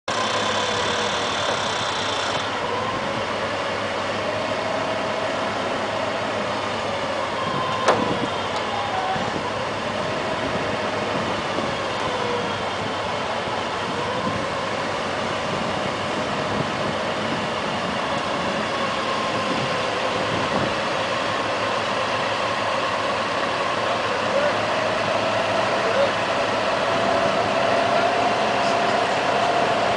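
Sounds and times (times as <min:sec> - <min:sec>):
forklift engine running: 0:00.0 - 0:29.9.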